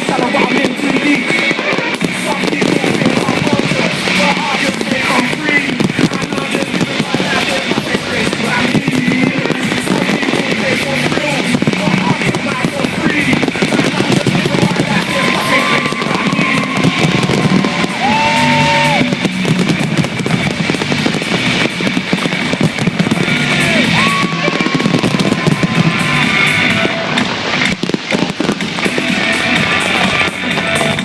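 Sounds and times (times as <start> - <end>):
fireworks banging and crackling: 0.0 - 31.0
loud music over loudspeakers: 0.0 - 31.0.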